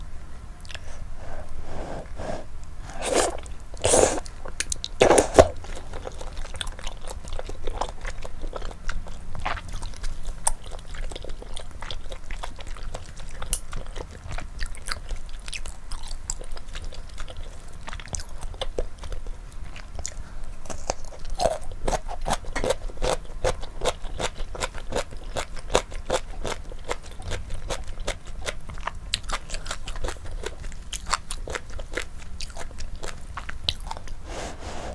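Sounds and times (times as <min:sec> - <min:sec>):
chewing and biting noodles: 0:00.6 - 0:34.9.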